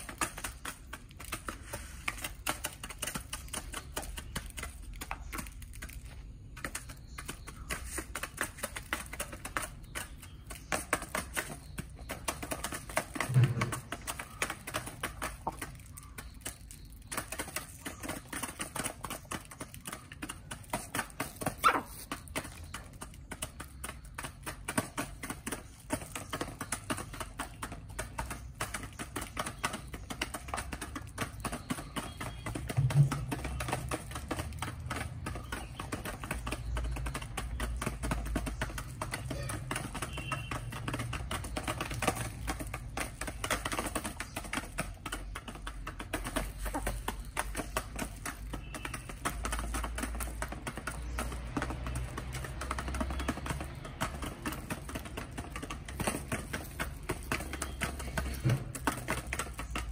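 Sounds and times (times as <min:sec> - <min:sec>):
chickens pecking at feed bowl: 0:00.0 - 0:59.9.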